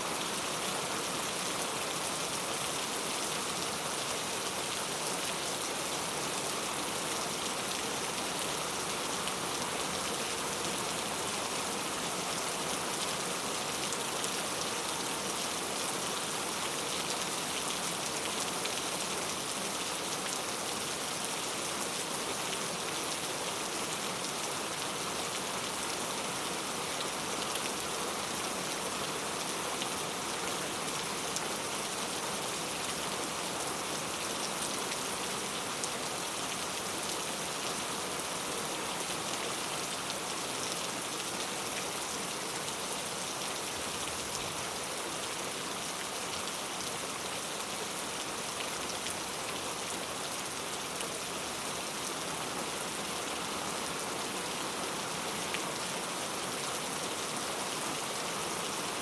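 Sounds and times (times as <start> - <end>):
heavy rain on hard surfaces: 0.0 - 59.0.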